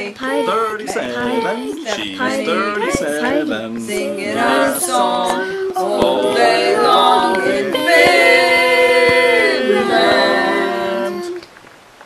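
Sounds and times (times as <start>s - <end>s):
a cappella voices singing in harmony: 0.0s - 11.5s.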